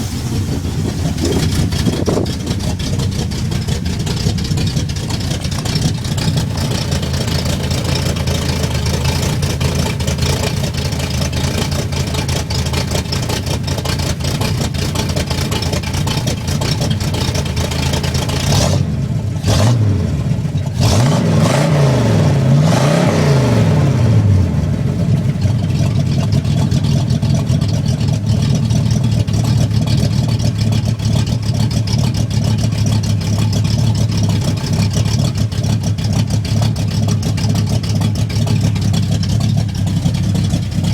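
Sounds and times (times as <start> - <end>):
engine idling and revving: 0.0 - 40.9.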